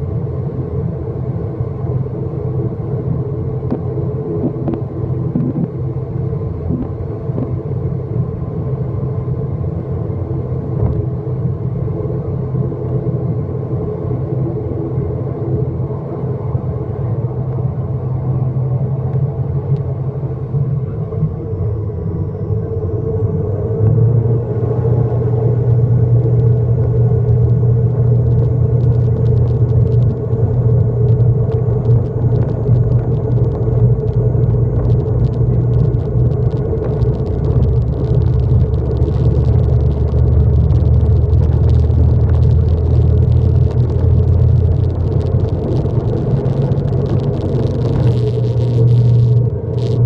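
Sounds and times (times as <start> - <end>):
propeller engine drone in cabin: 0.0 - 50.0.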